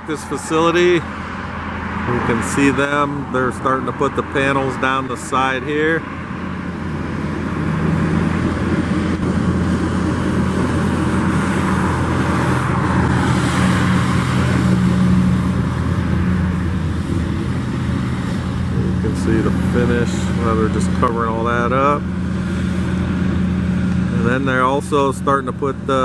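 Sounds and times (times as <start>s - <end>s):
traffic engine hum and road noise: 0.0s - 26.0s.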